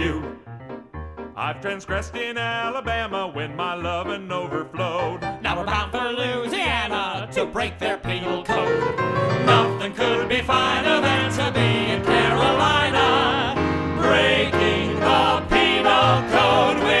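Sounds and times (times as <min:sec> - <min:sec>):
instrumental accompaniment: 0:00.0 - 0:17.0
voices singing show tune: 0:01.4 - 0:17.0.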